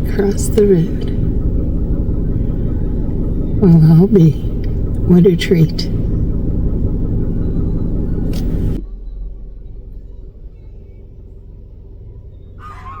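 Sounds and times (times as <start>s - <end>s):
vehicle idling: 0.0s - 13.0s.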